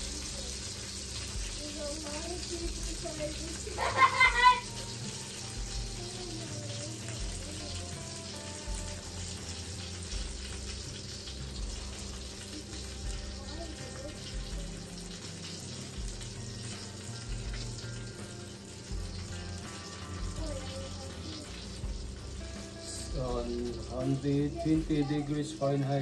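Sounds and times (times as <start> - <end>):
fish sizzling in roasting pan: 0.0 - 26.0.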